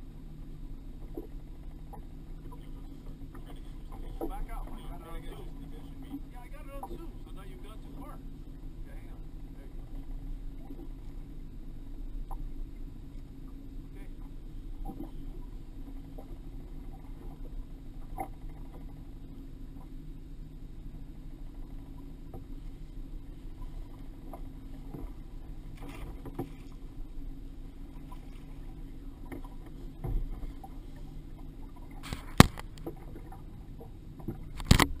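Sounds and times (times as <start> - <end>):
boat engine rumble: 0.0 - 35.0
water slapping against hull: 0.9 - 11.4, 12.2 - 20.0, 21.4 - 35.0.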